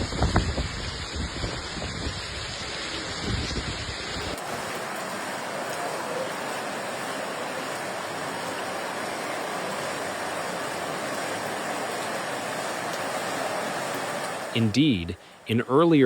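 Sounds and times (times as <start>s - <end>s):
floodwater rushing: 1.9s - 16.0s.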